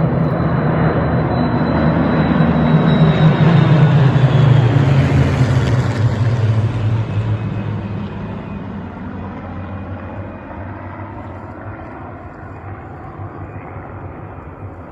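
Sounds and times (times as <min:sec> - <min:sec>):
aircraft piston engines droning: 0:00.0 - 0:14.9.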